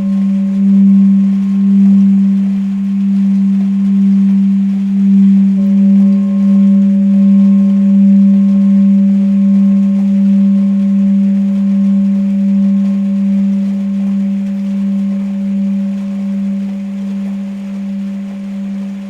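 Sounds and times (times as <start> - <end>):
singing bowl humming: 0.0 - 19.0.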